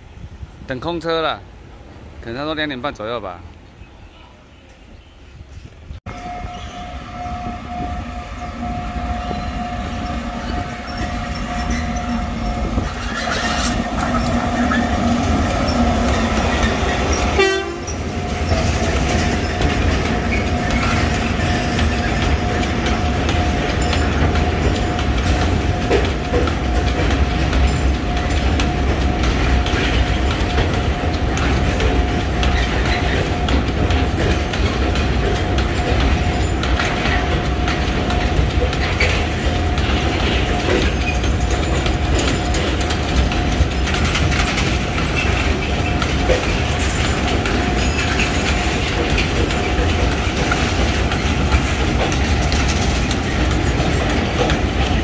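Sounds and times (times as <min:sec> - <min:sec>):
train rolling on rails: 0:00.0 - 0:55.0.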